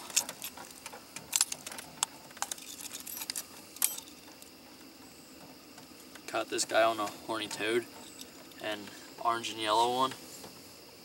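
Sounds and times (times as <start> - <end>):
gear clicking and rattling: 0.0 - 10.2.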